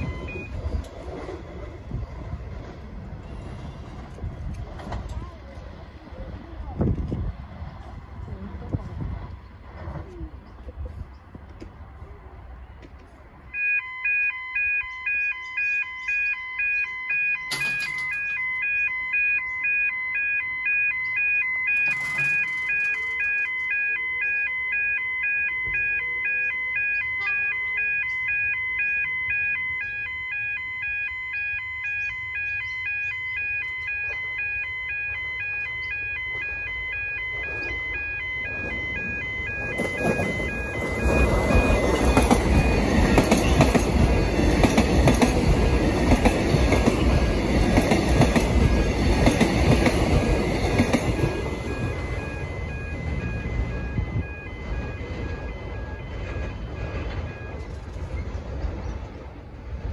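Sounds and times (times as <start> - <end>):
level crossing warning bells: 0.0 - 9.3, 13.3 - 59.9
electric train passing: 0.0 - 59.9.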